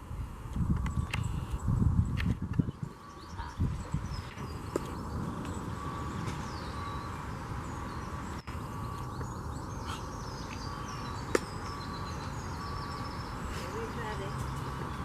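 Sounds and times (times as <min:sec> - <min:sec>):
steady low rumble: 0:00.0 - 0:15.0
small birds chirping: 0:00.6 - 0:15.0.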